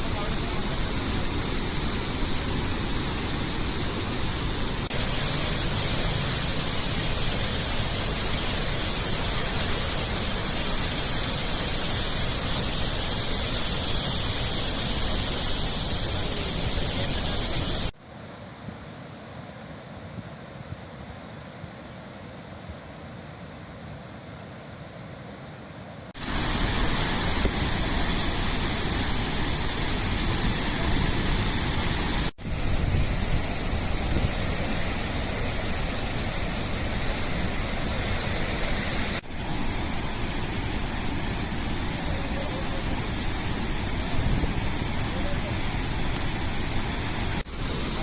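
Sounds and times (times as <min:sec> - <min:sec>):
floodwater rushing through spillway: 0:00.0 - 0:18.0, 0:26.2 - 0:48.0.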